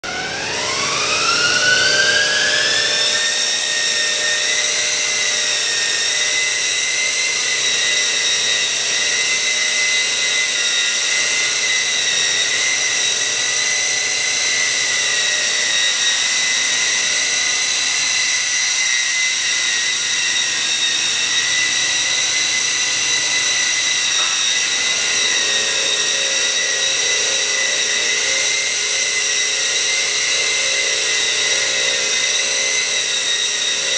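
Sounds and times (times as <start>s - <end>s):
toy helicopter motors whining: 0.0s - 33.9s.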